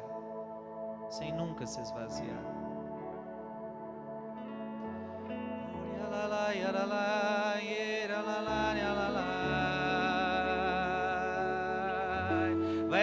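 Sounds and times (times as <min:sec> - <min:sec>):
held instrumental chords: 0:00.0 - 0:13.0
slow worship singing: 0:00.0 - 0:13.0.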